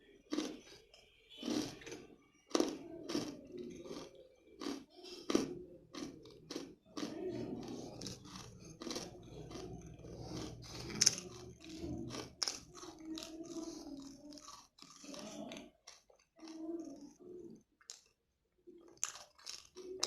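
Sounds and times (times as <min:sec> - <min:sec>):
chewing crunchy peanut candy: 0:00.0 - 0:20.0.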